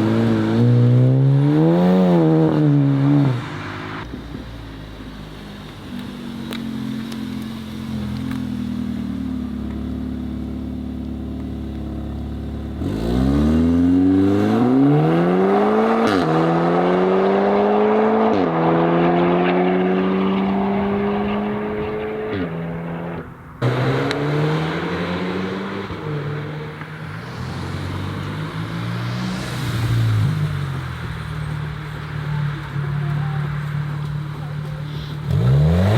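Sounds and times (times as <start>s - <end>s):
car engine revving and upshifting: 0.0s - 4.1s, 5.6s - 35.9s.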